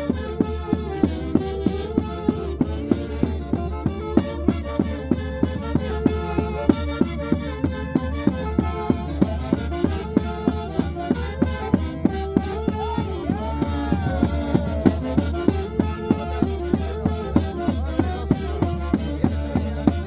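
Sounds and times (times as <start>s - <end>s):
instrumental band music: 0.0s - 20.0s.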